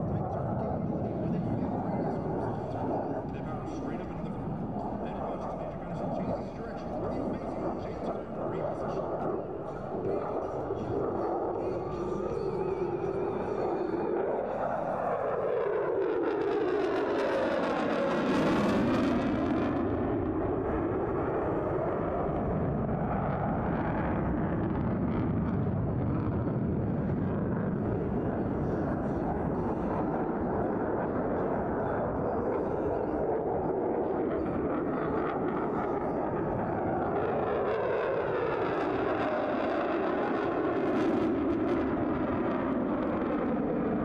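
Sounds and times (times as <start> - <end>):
fighter jet afterburner roar: 0.0 - 44.0.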